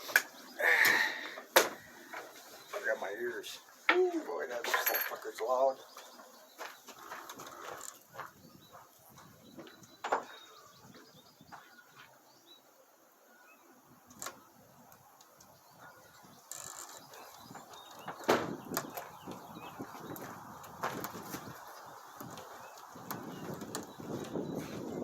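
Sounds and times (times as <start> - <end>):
birds chirping faintly: 0.0 - 25.0
faint outdoor background: 0.0 - 25.0.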